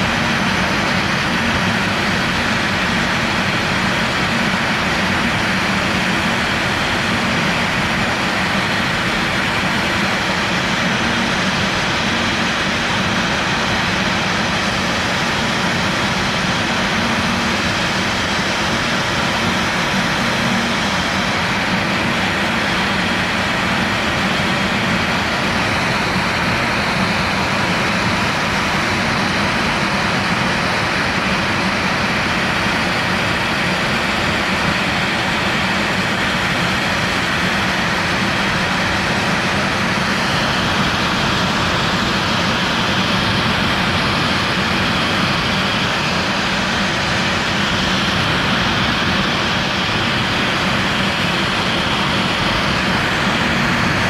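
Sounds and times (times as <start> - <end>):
vacuum noise: 0.0 - 54.0.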